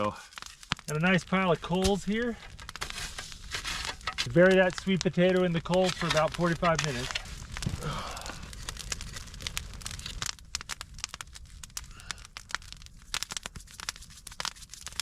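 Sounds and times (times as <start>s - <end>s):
campfire coals crackling: 0.0s - 15.0s.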